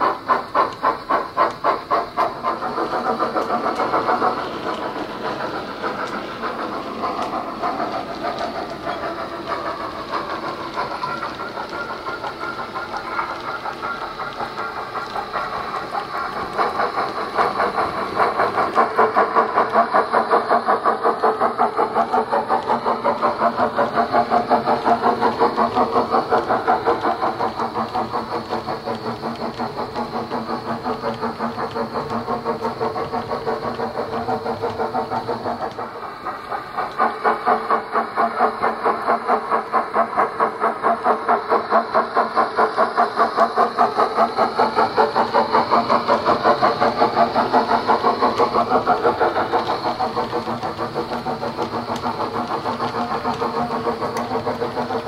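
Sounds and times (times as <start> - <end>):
model steam locomotive chuffs: 0.0 - 55.0.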